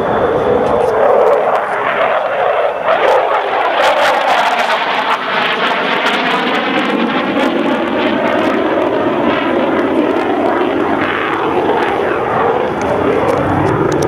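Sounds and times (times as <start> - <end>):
aircraft engine roaring: 0.0 - 14.0.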